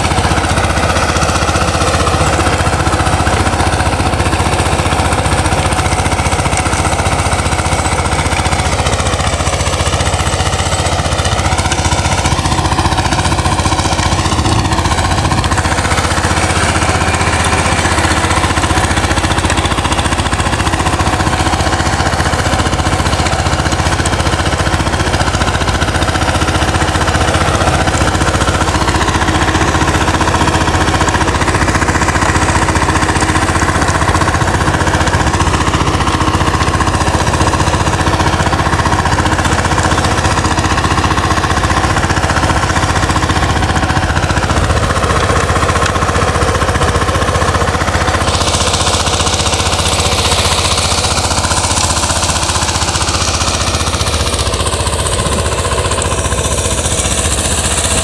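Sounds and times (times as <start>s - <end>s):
diesel engine knocking: 0.0s - 58.0s
rotary tines churning soil: 0.0s - 58.0s.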